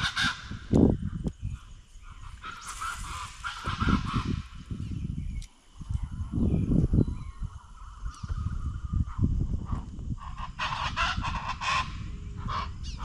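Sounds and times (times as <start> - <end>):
birds calling loudly: 0.0 - 13.0.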